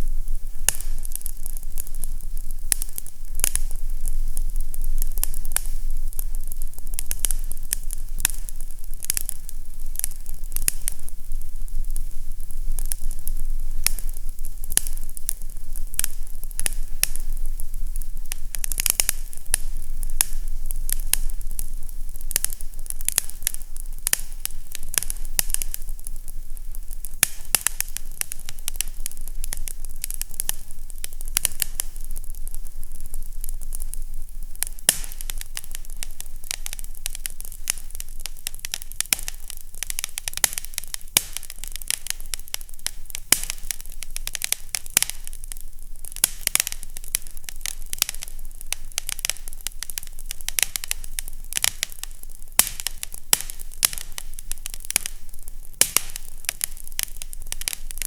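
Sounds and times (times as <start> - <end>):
fireplace crackling: 0.0 - 58.0.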